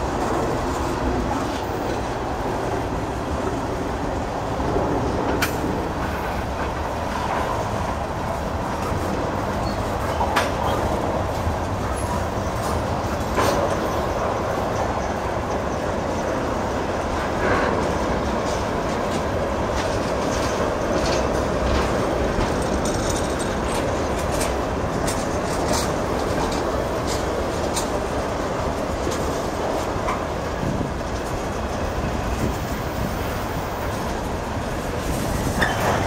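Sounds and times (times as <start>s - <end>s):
train wheels rumbling on rail: 0.0s - 36.0s
wheels clacking: 0.0s - 36.0s.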